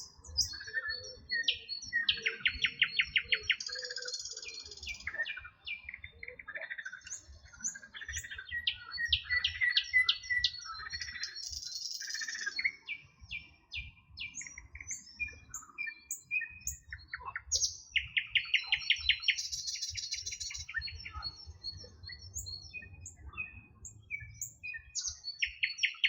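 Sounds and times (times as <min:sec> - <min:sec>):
bird trill: 0:00.0 - 0:26.0
songbirds chirping: 0:00.0 - 0:26.0.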